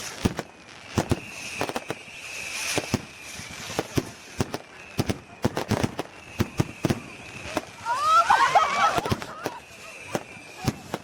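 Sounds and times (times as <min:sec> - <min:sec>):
fireworks bangs and cracks: 0:00.0 - 0:11.0
hissing fizz: 0:00.0 - 0:11.0
thin high whistle: 0:00.0 - 0:11.0.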